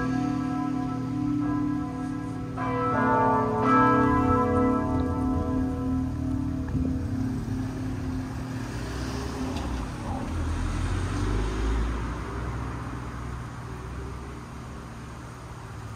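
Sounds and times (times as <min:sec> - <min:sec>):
car passing: 0:00.0 - 0:15.9.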